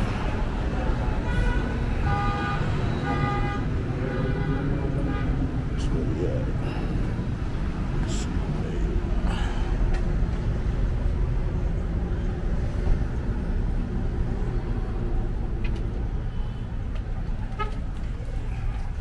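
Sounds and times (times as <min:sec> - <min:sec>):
vehicle traffic rumble: 0:00.0 - 0:19.0.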